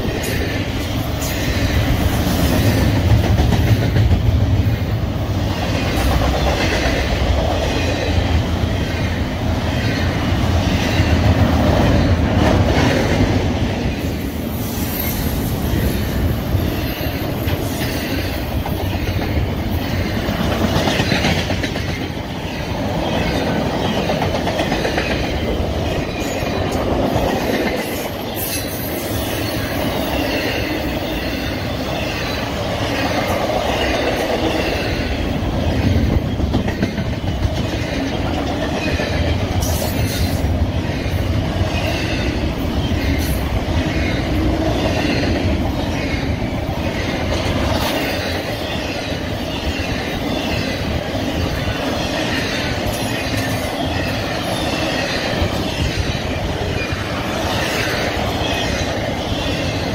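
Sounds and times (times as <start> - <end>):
clickety-clack over rail joints: 0.0 - 14.3, 15.1 - 59.9
freight train wheels rumbling: 0.0 - 59.9.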